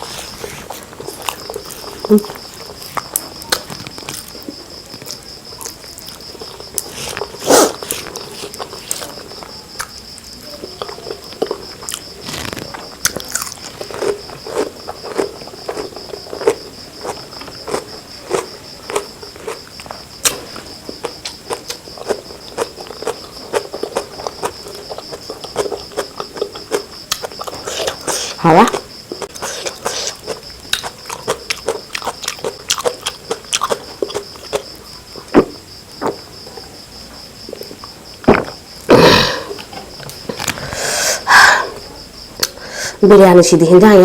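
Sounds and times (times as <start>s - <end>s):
person chewing and mouth smacking: 0.0s - 36.7s, 37.4s - 42.6s.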